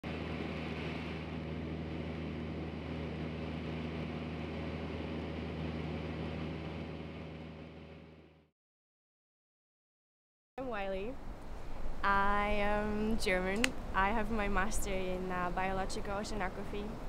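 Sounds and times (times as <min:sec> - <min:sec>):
aircraft engines droning in cabin: 0:00.0 - 0:08.4, 0:10.7 - 0:17.0.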